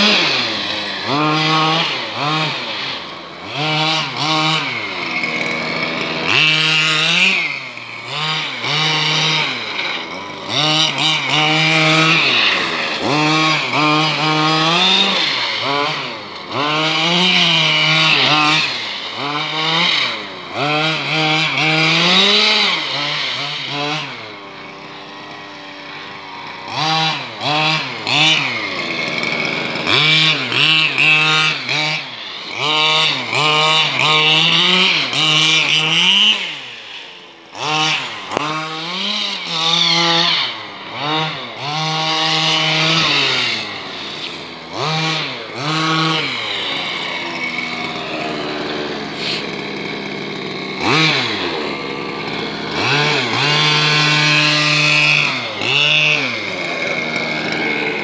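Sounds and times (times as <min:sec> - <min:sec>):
remote-control car engine revving: 0:00.0 - 0:58.0.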